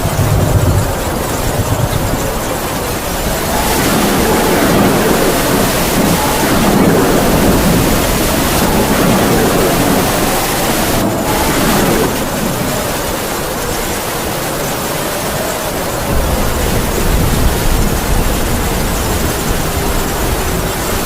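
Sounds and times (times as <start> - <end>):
heavy rain falling: 0.0 - 21.0
howling wind: 0.0 - 21.0.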